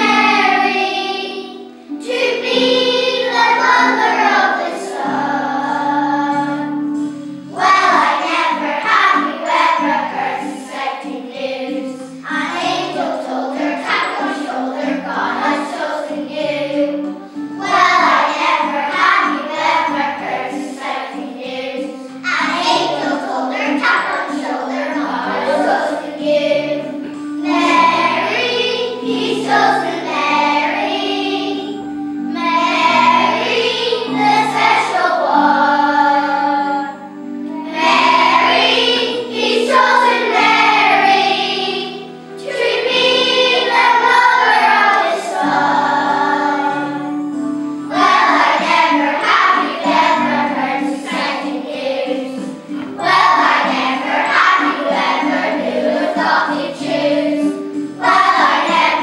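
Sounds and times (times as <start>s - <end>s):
children singing in chorus: 0.0s - 59.0s
musical accompaniment: 0.0s - 59.0s.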